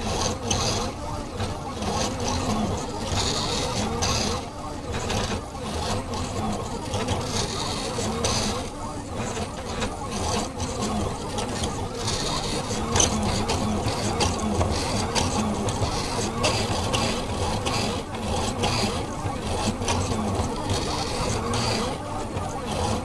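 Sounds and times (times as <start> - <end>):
stepper motors whining: 0.0 - 23.0.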